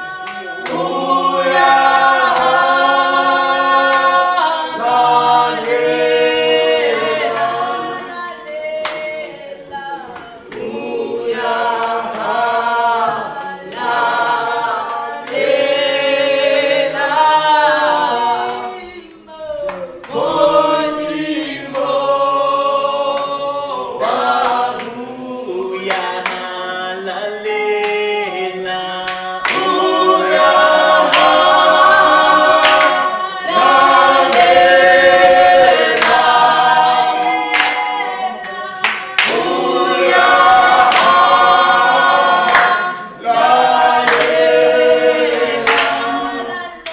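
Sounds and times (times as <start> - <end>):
congregation singing a cappella: 0.0 - 46.9.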